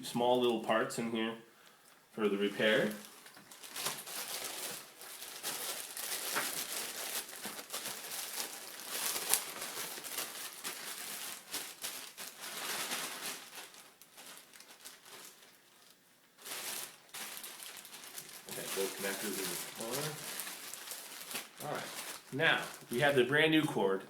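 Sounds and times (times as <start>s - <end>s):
packaging crinkling and rustling: 2.3s - 23.2s.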